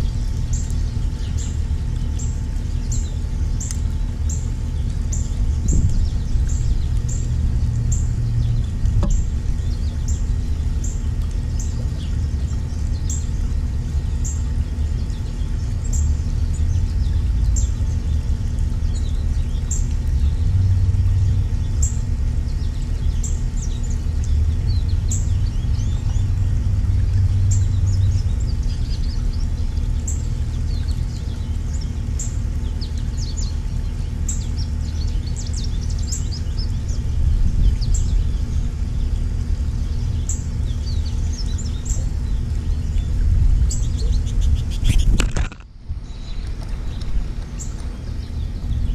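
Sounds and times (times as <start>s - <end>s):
small songbirds chirping: 0.0s - 48.9s
steady low rumble: 0.0s - 48.9s.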